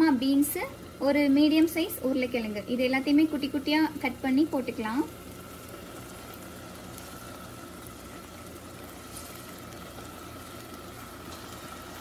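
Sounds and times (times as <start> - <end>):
mechanical hum with whine: 0.0 - 12.0
pan sizzling: 0.0 - 12.0.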